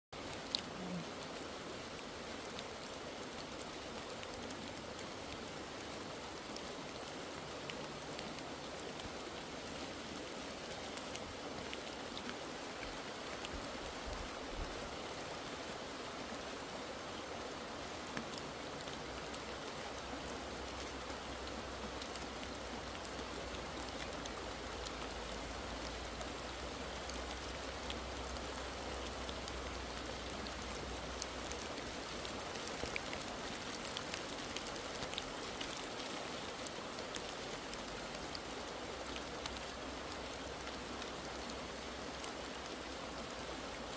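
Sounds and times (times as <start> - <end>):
rain falling: 0.1 - 43.9.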